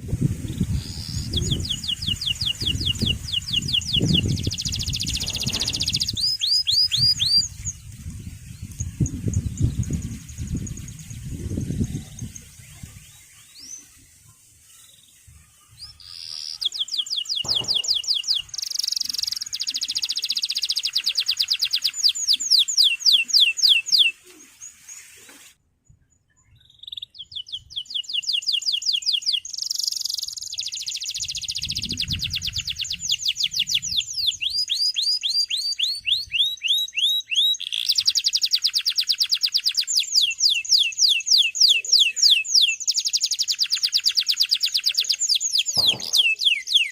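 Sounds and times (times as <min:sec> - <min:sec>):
canary singing trills: 0:00.4 - 0:25.1, 0:26.4 - 0:46.9.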